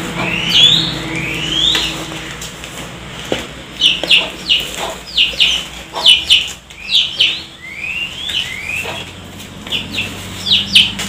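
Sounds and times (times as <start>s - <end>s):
bird chirping: 0.2s - 2.1s, 3.8s - 11.0s.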